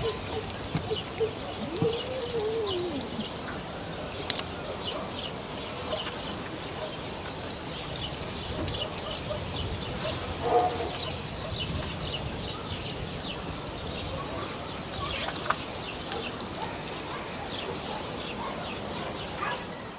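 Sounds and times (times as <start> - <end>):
outdoor background noise: 0.0 - 19.9
small birds chirping: 0.0 - 19.9.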